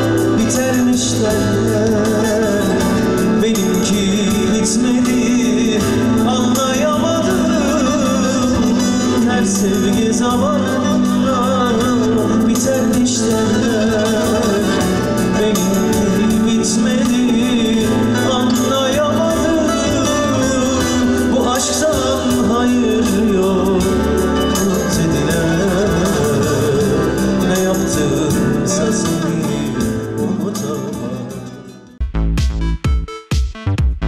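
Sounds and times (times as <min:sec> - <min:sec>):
man singing: 0:00.0 - 0:32.0
band playing: 0:00.0 - 0:34.0.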